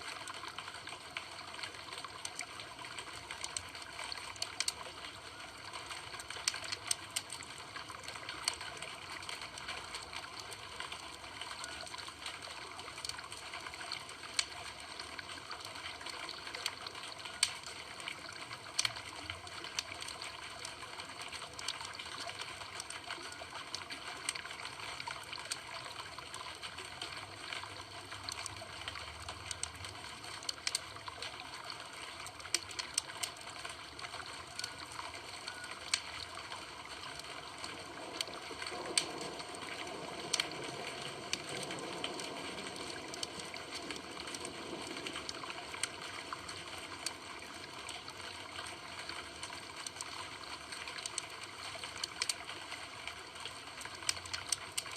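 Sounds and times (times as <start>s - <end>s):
burning wood crackling and popping: 0.1s - 54.9s.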